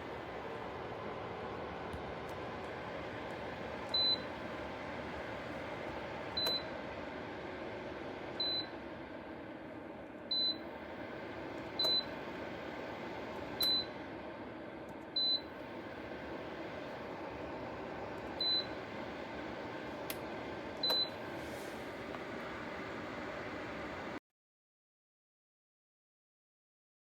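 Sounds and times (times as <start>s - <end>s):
heater fan running: 0.0s - 24.2s.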